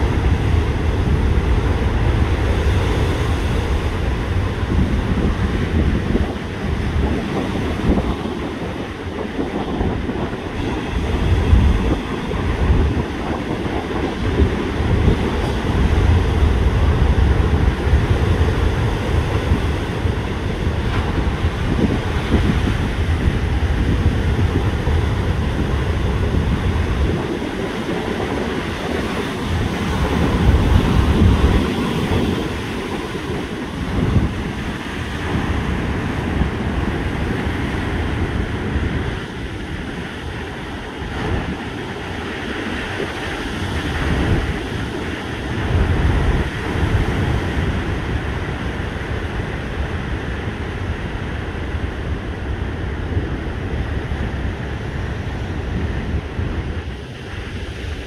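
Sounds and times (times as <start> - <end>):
rough surf breaking: 0.0 - 58.0
wind buffeting microphone: 0.0 - 58.0.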